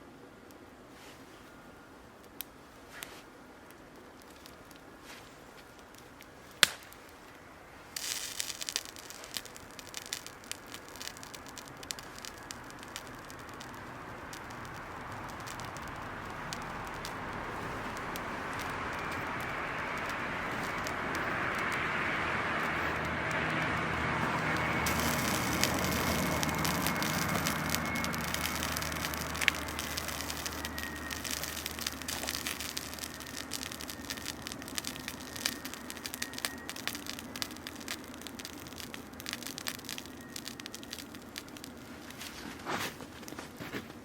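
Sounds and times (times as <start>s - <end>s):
wood fire crackling: 0.0s - 44.0s
steady rushing noise: 7.5s - 43.1s.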